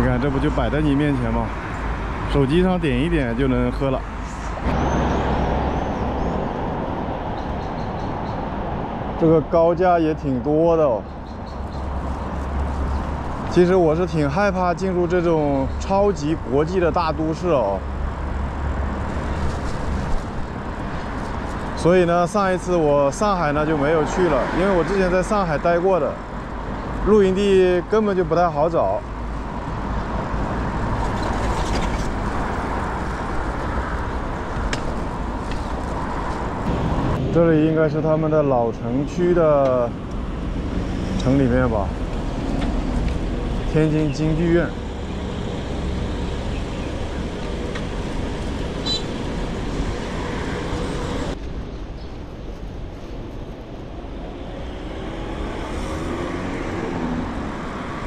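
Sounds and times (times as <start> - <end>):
cars passing: 0.0 - 58.0
traffic and road noise: 0.0 - 58.0.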